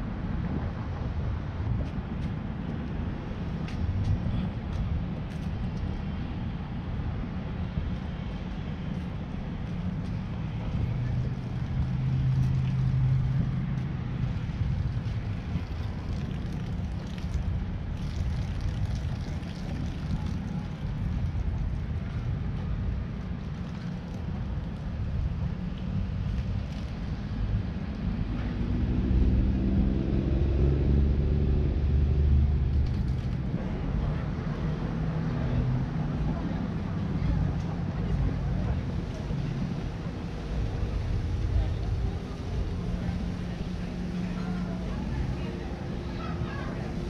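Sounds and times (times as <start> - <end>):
street traffic rumble: 0.0 - 47.0
engine humming: 1.7 - 47.0.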